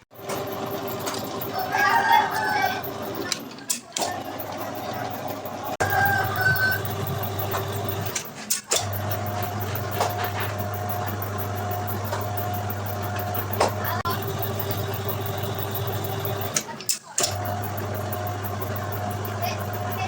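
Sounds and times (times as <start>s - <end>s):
electric motor humming: 0.2s - 8.2s, 8.8s - 20.0s.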